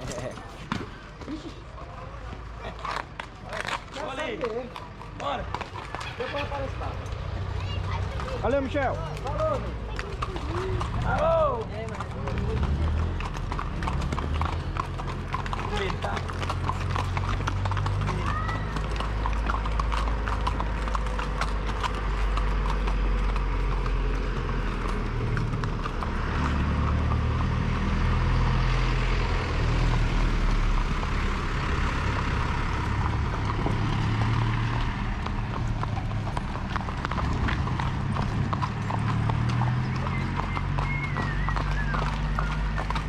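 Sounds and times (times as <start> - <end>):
hooves clip-clopping on pavement: 0.0 - 43.0.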